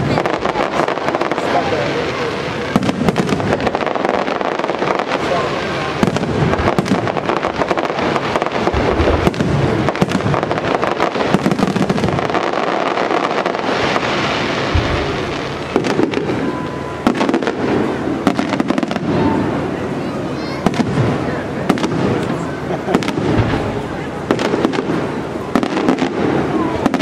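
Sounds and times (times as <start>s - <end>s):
firework crackling: 0.0s - 27.0s.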